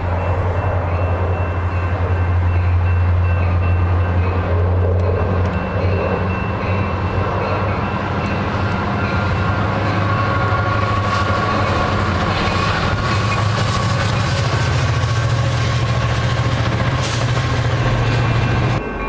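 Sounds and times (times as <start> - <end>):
diesel locomotive engine drone: 0.0 - 19.0
train rumble and rail noise: 0.0 - 19.0.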